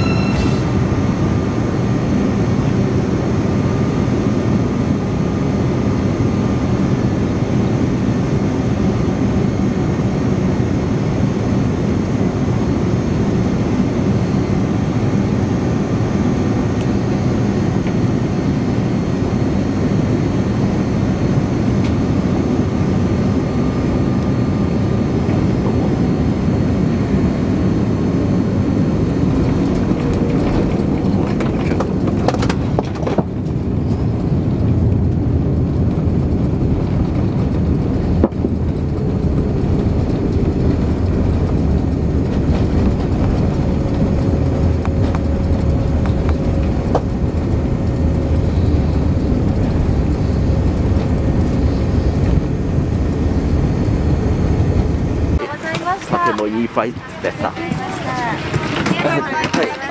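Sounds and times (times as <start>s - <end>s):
jet engines and rushing air: 0.0s - 59.9s.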